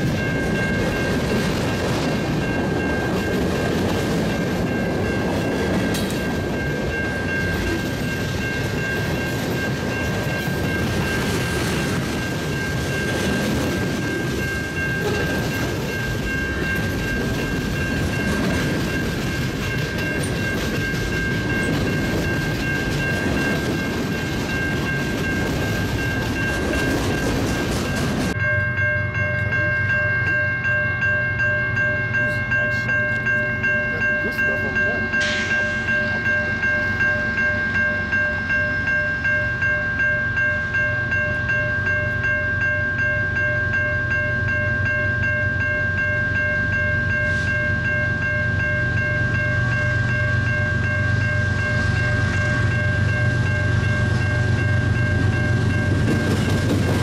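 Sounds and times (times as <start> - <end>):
train wheels clattering on rails: 0.0 - 28.4, 32.7 - 43.1, 44.9 - 57.0
steady high tone: 4.3 - 56.1.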